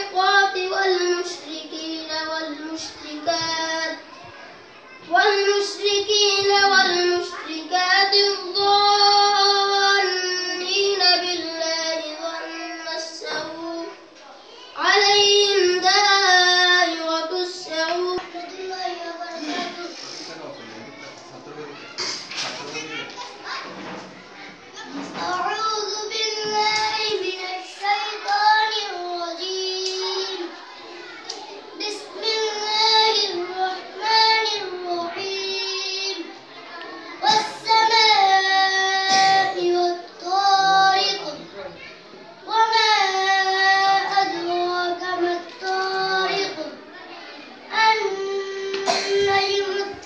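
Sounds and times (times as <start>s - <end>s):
boy chanting a slow melody: 0.0s - 4.4s, 5.0s - 20.4s, 25.0s - 41.6s, 42.4s - 50.0s
girl singing unaccompanied: 0.0s - 20.2s, 25.0s - 50.0s.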